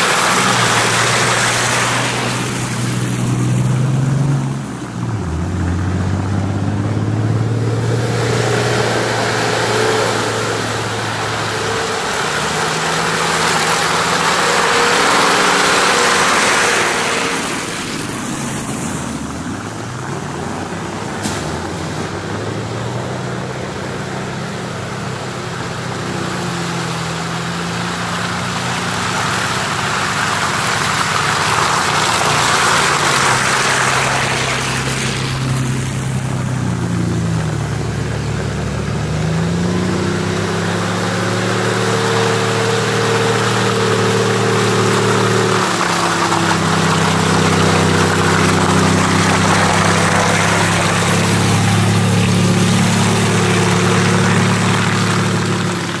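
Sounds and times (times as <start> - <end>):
suv engines driving through mud: 0.0 - 56.0
tyres churning through mud: 0.0 - 56.0.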